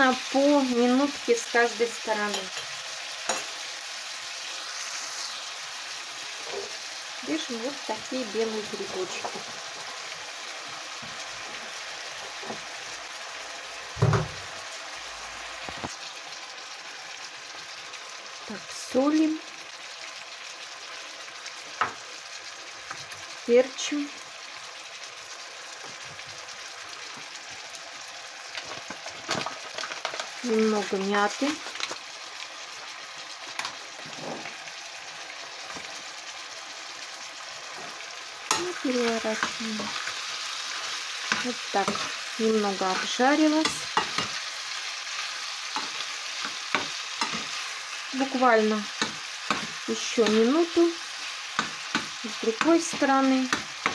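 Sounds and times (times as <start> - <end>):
chicken sizzling in frying pan: 0.0 - 53.9.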